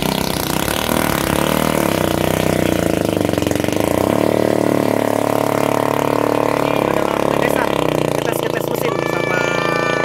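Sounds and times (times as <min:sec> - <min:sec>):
boat engine running hard: 0:00.0 - 0:10.0.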